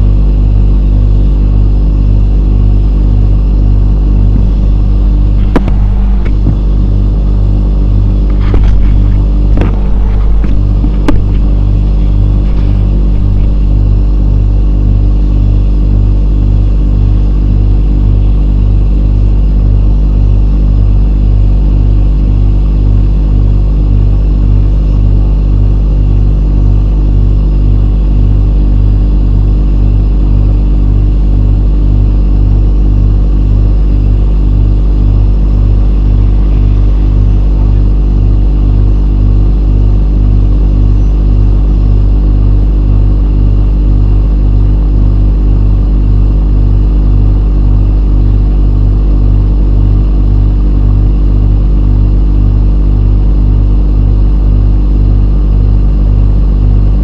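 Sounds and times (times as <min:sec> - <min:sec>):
machine drone with pulsing hum: 0:00.0 - 0:57.0.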